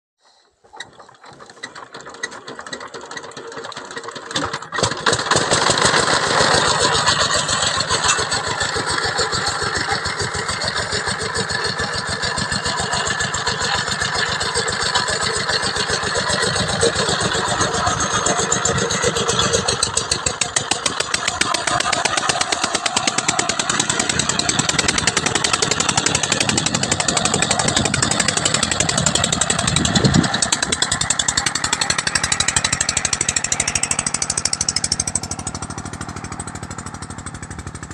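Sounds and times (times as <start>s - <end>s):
diesel engine cranking and running: 0.4s - 37.9s.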